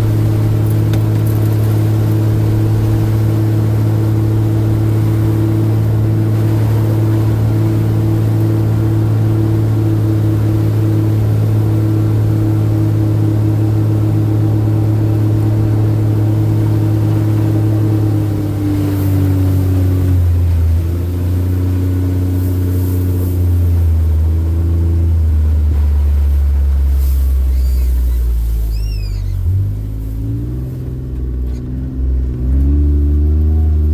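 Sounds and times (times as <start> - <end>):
road noise: 0.0 - 33.9
vehicle engine running: 0.0 - 33.9.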